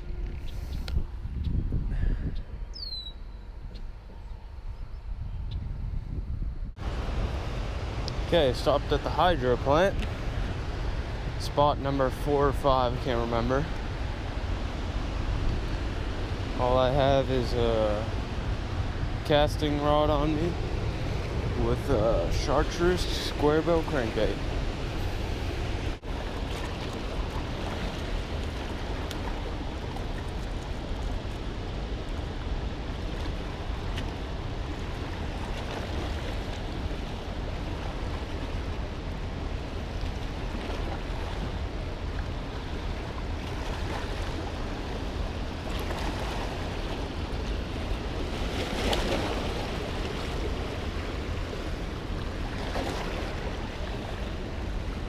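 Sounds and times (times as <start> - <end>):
wind buffeting microphone: 0.0 - 55.0
rushing river water: 6.8 - 55.0.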